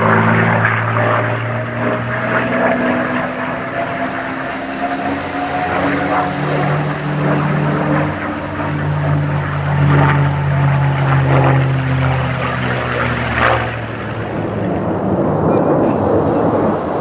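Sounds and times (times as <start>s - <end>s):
propeller aircraft engine drone: 0.0s - 17.0s
rough rushing noise: 0.0s - 17.0s.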